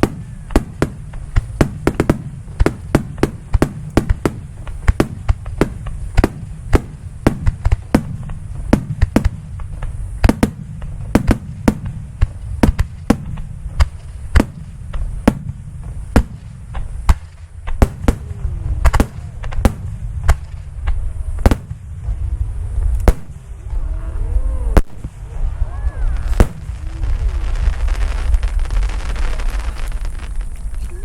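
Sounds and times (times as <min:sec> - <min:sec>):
low rumble of booms: 0:00.0 - 0:31.0.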